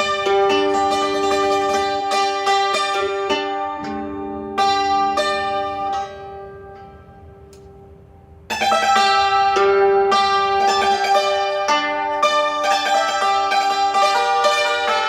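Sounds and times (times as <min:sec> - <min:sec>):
zither playing: 0:00.0 - 0:15.0.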